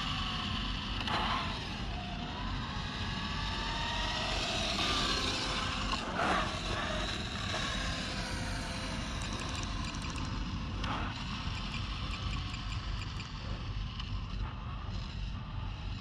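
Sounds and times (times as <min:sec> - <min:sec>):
rc car motor whining: 0:00.0 - 0:16.0.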